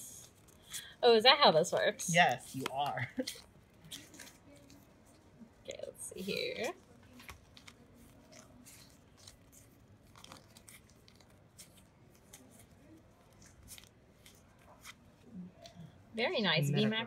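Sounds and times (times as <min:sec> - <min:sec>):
trading cards flicking and rustling: 0:00.1 - 0:01.0, 0:01.7 - 0:16.1.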